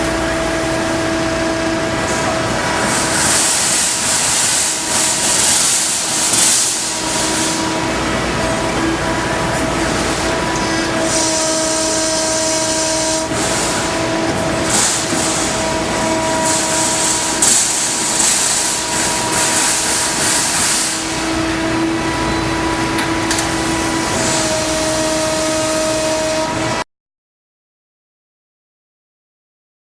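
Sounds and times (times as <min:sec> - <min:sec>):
laser cutter hissing and whining: 0:00.0 - 0:26.8.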